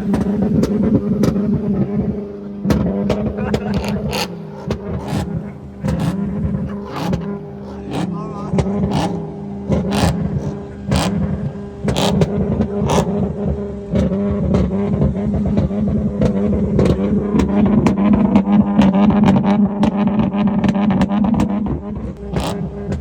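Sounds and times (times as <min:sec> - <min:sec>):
car engine revving: 0:00.0 - 0:23.0
exhaust cracks: 0:00.0 - 0:23.0.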